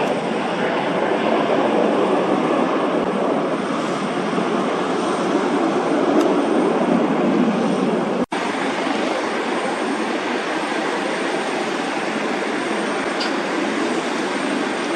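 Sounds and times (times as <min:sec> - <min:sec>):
jet engines roaring: 0:00.0 - 0:14.9.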